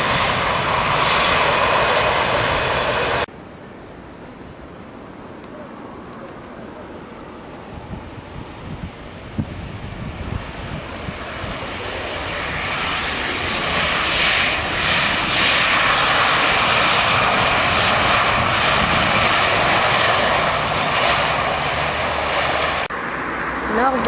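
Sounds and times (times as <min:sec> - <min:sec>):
jet airliner engine roar: 0:00.0 - 0:24.0.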